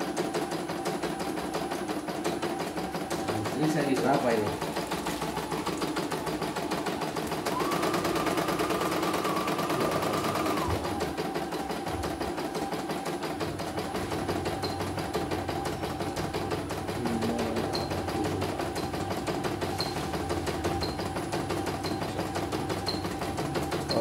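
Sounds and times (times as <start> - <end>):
embroidery machine stitching: 0.0 - 24.0.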